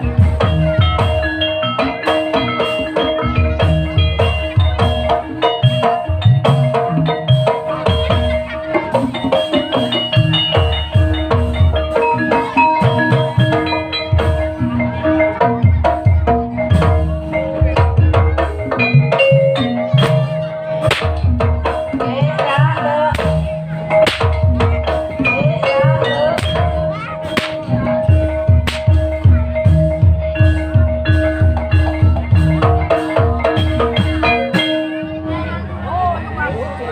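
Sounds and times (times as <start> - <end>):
drum strokes: 0.0 - 35.2
tuned mallet instruments: 0.0 - 36.9.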